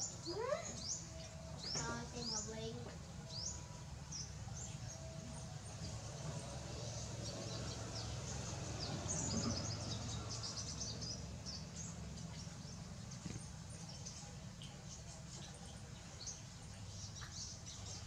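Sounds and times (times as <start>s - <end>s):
low steady hum: 0.0s - 18.0s
small birds chirping: 0.0s - 18.0s.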